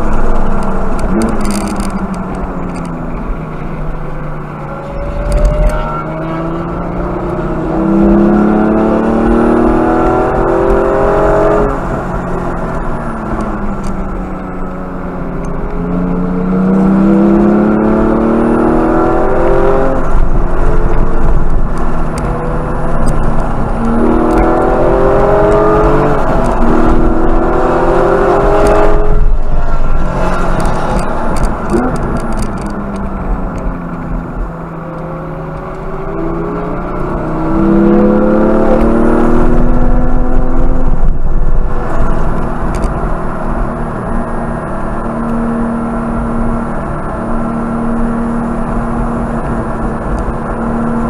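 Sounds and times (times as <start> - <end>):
car engine accelerating: 0.0 - 51.0
tyre and road noise: 0.0 - 51.0.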